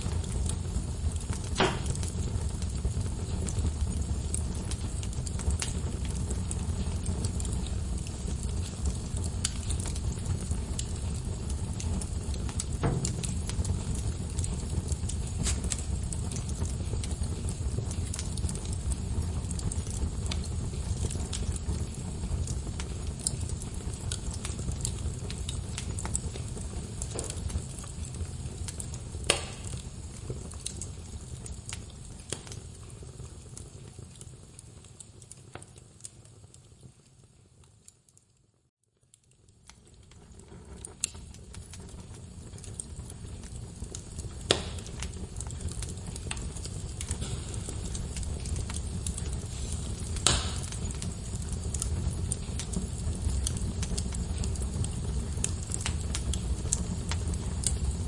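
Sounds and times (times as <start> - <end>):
burning logs popping: 0.0 - 38.2, 38.9 - 58.0
wood fire crackling: 0.0 - 58.0.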